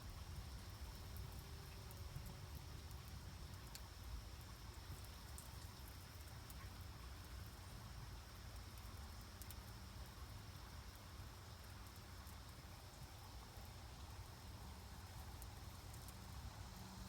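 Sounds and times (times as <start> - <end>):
tiny fire crackles: 0.0 - 17.0.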